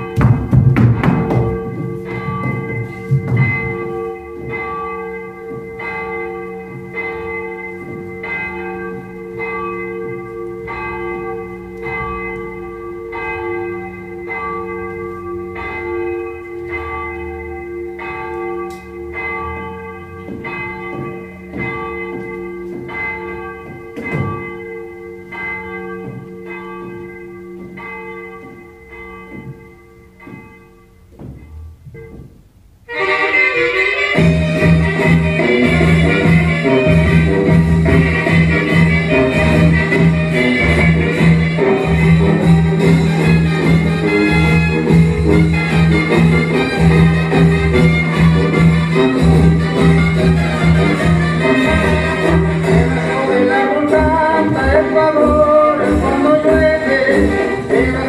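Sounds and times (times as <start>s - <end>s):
bell tolling: 0.0s - 33.4s, 34.1s - 58.0s.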